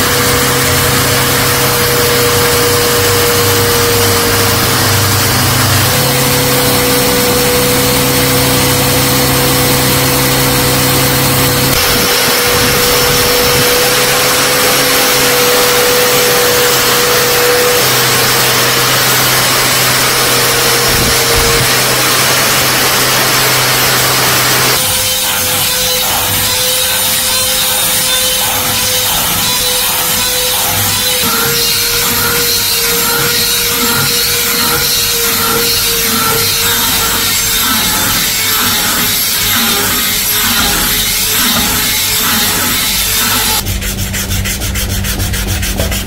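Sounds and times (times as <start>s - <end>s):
power tool motor hum: 0.0s - 43.7s
rough abrasive grinding: 0.0s - 46.0s.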